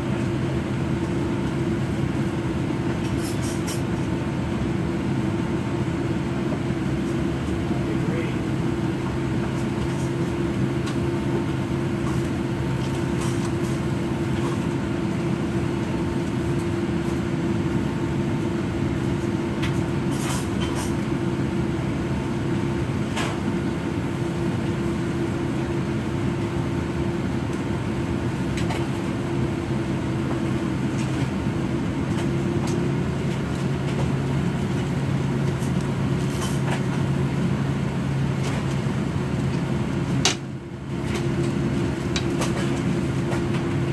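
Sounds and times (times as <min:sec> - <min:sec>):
airplane cabin hum: 0:00.0 - 0:43.9
jet engines at taxi power: 0:00.0 - 0:43.9.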